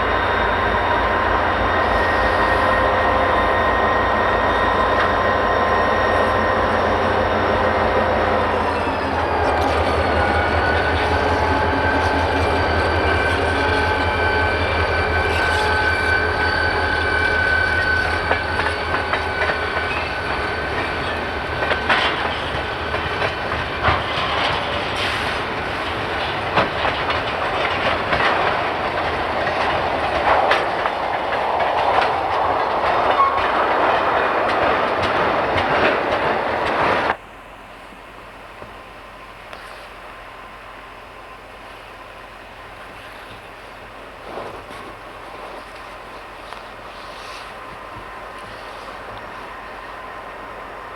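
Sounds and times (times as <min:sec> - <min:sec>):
railcar wheels clicking: 0:00.0 - 0:37.2, 0:42.8 - 0:50.9
diesel locomotive engine throbbing: 0:00.0 - 0:50.9.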